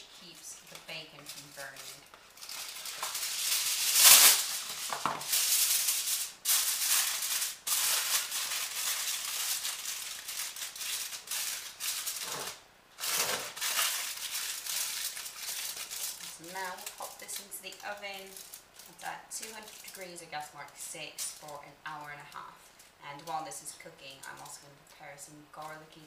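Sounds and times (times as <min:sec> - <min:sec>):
aluminium foil crinkling: 0:00.0 - 0:25.0.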